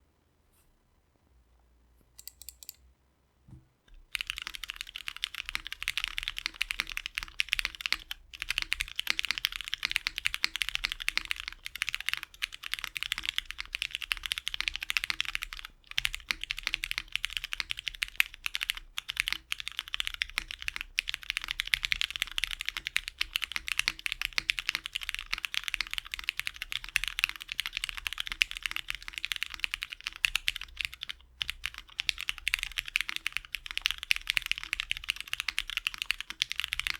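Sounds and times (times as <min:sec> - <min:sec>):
fast typing on mechanical keyboard: 0:04.1 - 0:36.9.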